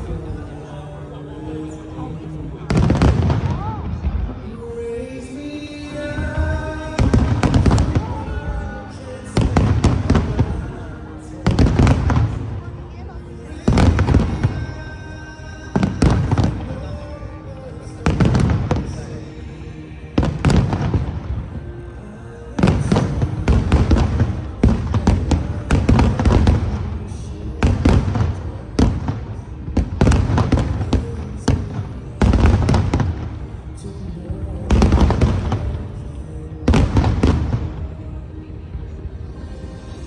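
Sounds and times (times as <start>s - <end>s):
music playing: 0.0s - 40.0s
fireworks bursting: 2.6s - 40.0s.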